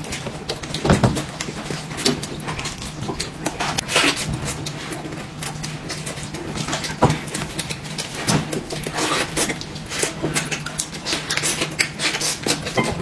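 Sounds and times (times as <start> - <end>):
wet chewing smacks: 0.0 - 12.8.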